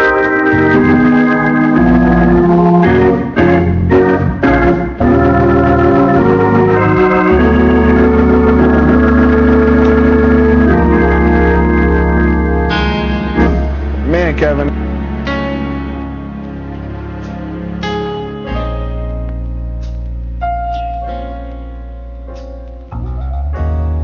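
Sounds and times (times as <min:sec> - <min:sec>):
organ playing gospel chords: 0:00.0 - 0:24.0.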